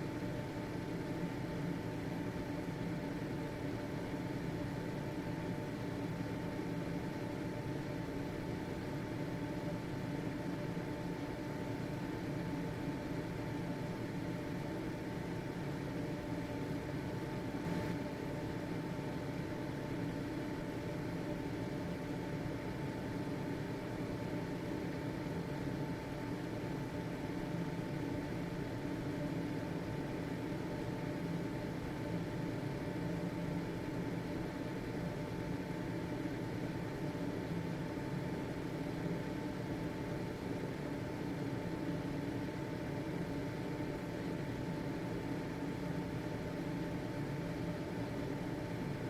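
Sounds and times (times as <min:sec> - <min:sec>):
exhaust fan whirring: 0:00.0 - 0:49.0.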